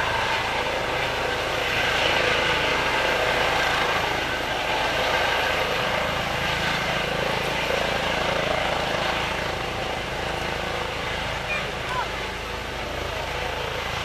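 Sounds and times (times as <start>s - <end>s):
helicopter rotor beat: 0.0s - 14.0s
helicopter turbine whine: 0.0s - 14.0s.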